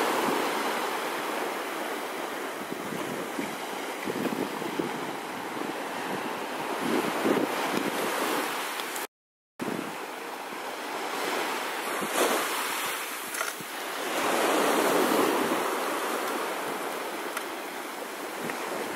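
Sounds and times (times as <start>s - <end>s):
wind on microphone: 0.0s - 9.0s, 9.6s - 10.1s, 10.8s - 18.9s
surf waves breaking: 0.0s - 18.9s.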